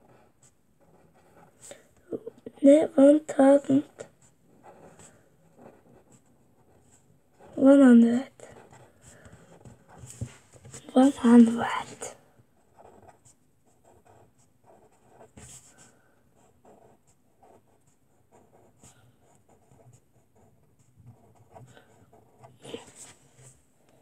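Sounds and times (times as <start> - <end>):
pen scratching on paper: 0.0 - 24.0.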